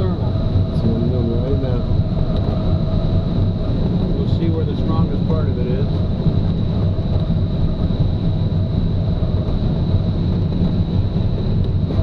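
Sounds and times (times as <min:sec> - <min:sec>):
low drone: 0:00.0 - 0:12.0
rush of air in cockpit: 0:00.0 - 0:12.0.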